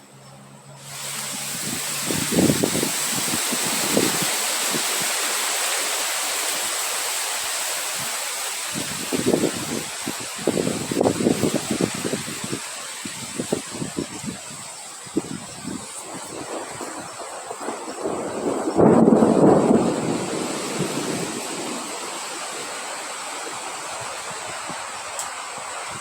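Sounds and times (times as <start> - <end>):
wind hissing: 0.7 - 26.0
wind gusts buffeting microphone: 1.2 - 26.0.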